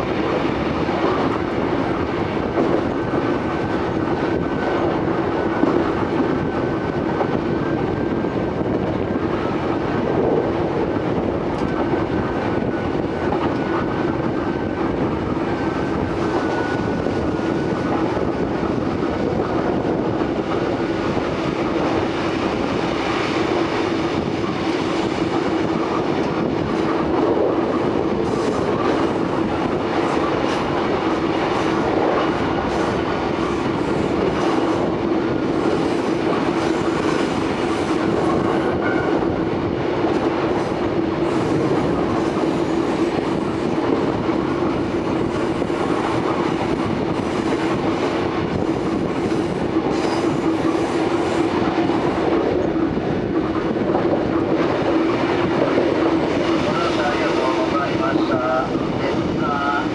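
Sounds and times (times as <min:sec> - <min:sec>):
train steady hum: 0:00.0 - 0:59.9
train wheels clattering on track: 0:00.0 - 0:59.9.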